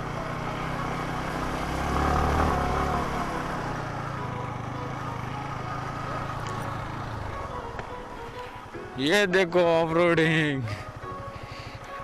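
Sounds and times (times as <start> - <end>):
motorcycle engine running: 0.0 - 11.9
road noise: 0.0 - 12.0.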